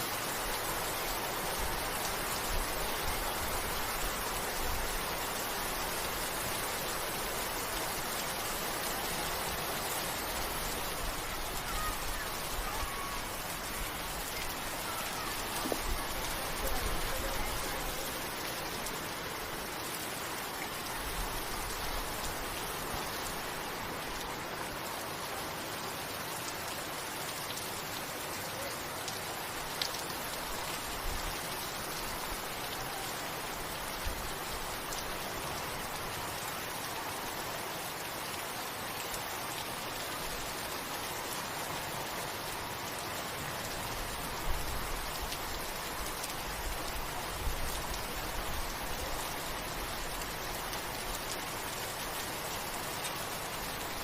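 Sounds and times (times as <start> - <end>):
louder raindrops: 0.0 - 54.0
steady rain: 0.0 - 54.0.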